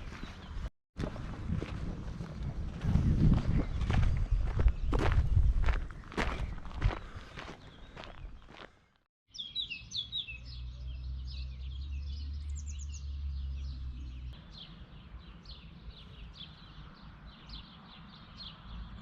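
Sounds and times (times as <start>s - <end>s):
small birds chirping: 3.4s - 19.0s.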